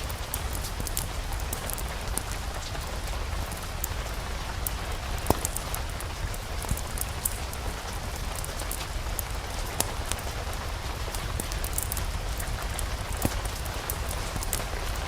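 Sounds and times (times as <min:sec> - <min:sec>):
sharp crackles: 0:00.0 - 0:15.0
steady rain falling: 0:00.0 - 0:15.0.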